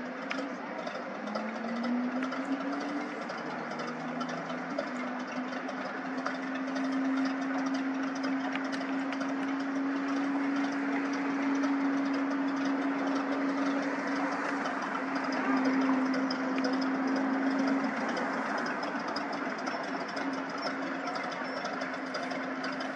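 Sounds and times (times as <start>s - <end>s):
floatplane engine droning: 0.0s - 22.9s.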